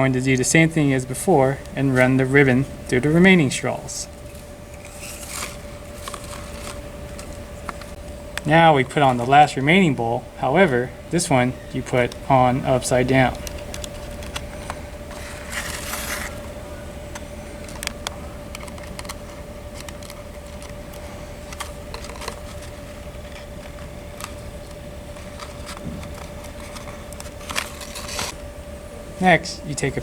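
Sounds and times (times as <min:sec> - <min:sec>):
faint hum: 0:00.0 - 0:30.0.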